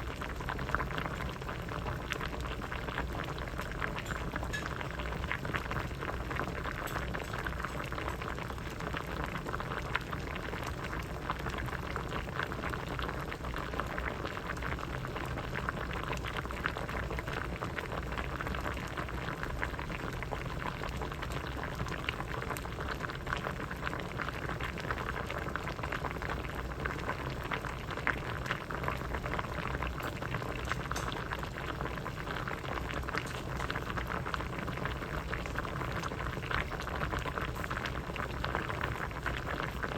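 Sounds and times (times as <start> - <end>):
soup bubbling in a pot: 0.0 - 39.9.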